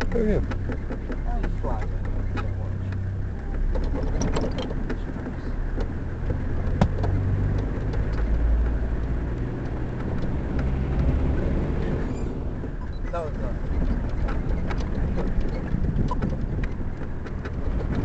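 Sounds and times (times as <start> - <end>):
rattles and knocks: 0.0 - 18.0
vehicle engine rumble: 0.0 - 18.0.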